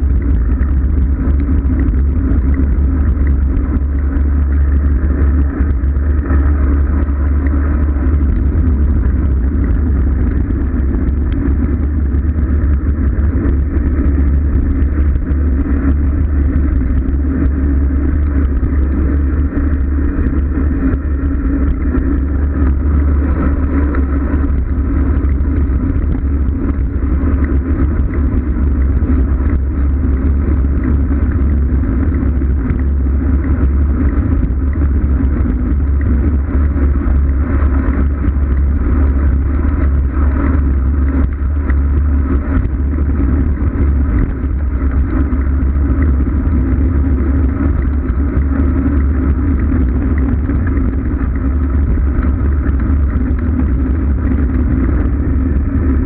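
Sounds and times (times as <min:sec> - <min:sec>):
road and tyre noise: 0:00.0 - 0:56.0
wind rush on microphone: 0:00.0 - 0:56.0.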